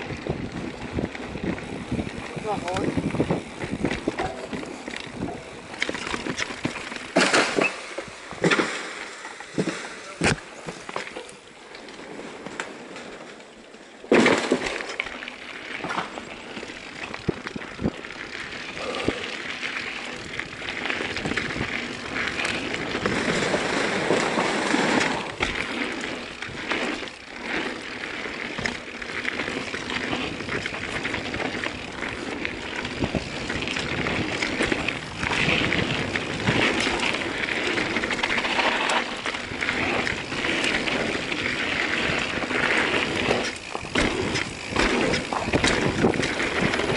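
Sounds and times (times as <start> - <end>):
bike rattling over bumps: 0.0 - 46.9
bike tyres on dirt: 0.0 - 46.9
sharp bike jolt: 2.7 - 11.2, 14.0 - 46.9.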